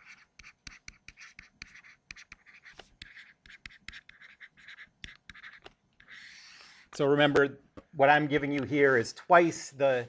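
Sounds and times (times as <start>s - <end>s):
stylus tapping and scratching on screen: 0.0s - 9.0s.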